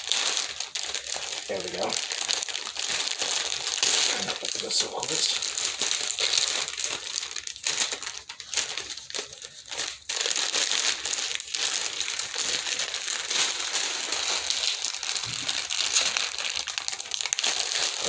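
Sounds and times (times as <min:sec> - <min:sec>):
packaging crinkling and tearing: 0:00.0 - 0:18.0.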